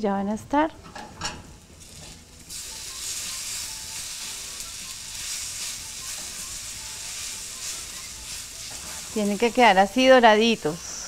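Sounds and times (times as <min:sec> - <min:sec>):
tofu sizzling in hot oil: 0:01.6 - 0:10.7.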